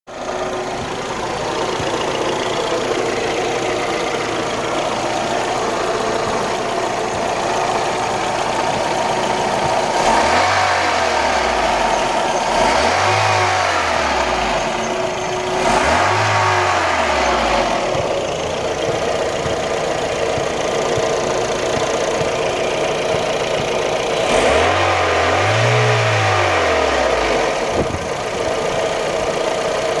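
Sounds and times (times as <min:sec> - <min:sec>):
car engine idling and revving: 0:00.1 - 0:30.0
rasping engine noise: 0:00.1 - 0:30.0.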